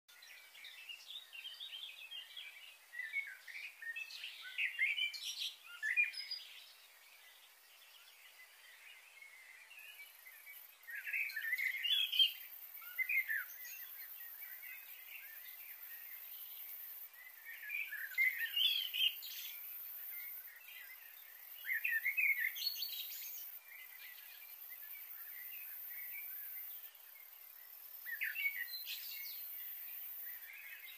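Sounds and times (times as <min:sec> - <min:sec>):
faint high-pitched hiss: 0:00.1 - 0:30.9
wild birds singing: 0:00.1 - 0:30.9.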